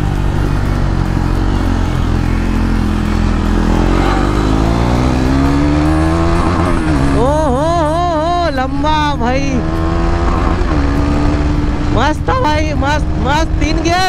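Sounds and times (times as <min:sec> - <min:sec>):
motorcycle engine accelerating hard: 0:00.0 - 0:14.0.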